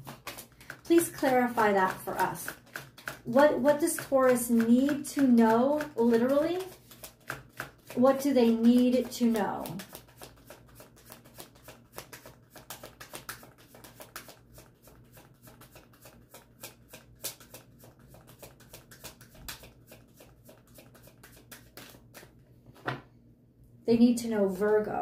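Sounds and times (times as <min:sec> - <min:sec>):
cards being shuffled by hand: 0:00.0 - 0:23.0.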